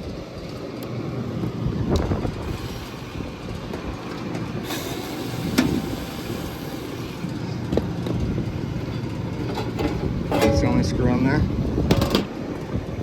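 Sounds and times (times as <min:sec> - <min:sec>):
hvac units droning: 0:00.0 - 0:13.0.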